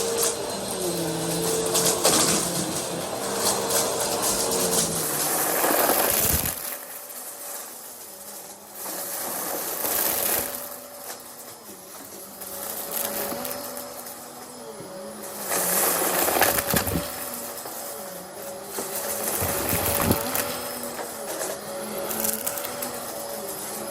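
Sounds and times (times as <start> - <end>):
vacuum cleaner motor whine: 0.0 - 23.9.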